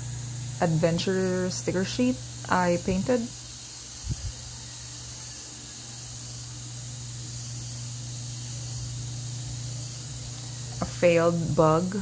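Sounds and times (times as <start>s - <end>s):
low steady hum: 0.0s - 4.5s, 5.8s - 12.0s
background hiss: 0.0s - 11.0s.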